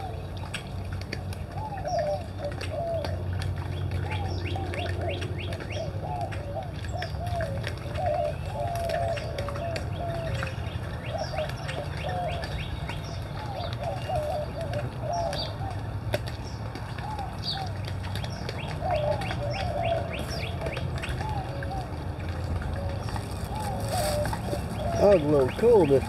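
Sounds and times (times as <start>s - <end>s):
birds calling: 0.0s - 26.0s.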